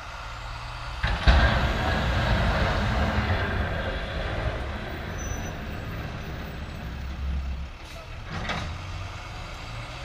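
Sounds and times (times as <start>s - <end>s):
road or wind noise: 0.0s - 10.0s
vehicle engine rumble: 0.0s - 10.0s.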